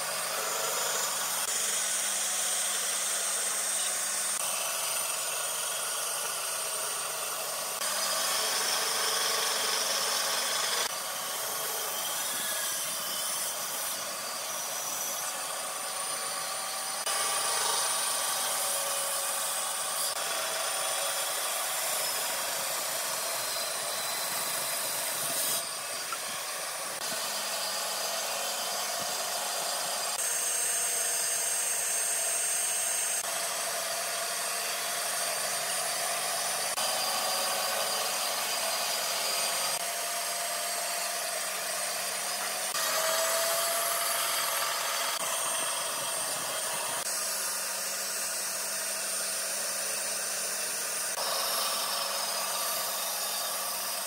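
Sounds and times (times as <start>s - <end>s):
band saw cutting wood: 0.0s - 54.0s
band saw motor hum: 0.0s - 54.0s.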